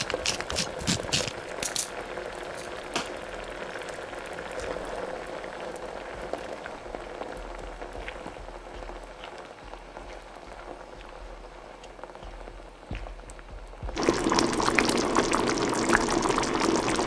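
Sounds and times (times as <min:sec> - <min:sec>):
crackles and pops: 0:00.0 - 0:17.0
food sizzling and bubbling: 0:00.0 - 0:17.0.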